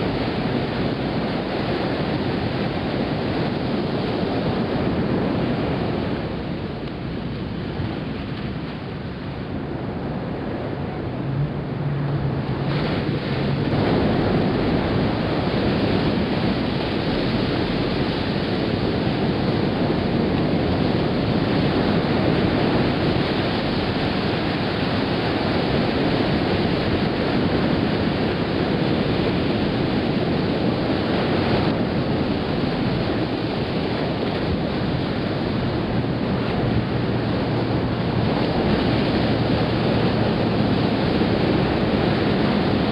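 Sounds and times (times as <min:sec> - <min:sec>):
surf breaking on shore: 0:00.0 - 0:42.9
wind on microphone: 0:00.0 - 0:42.9.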